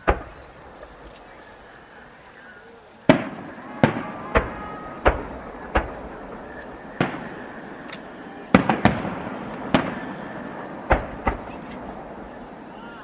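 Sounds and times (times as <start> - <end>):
firework shells bursting: 0.0 - 1.6, 3.0 - 13.0.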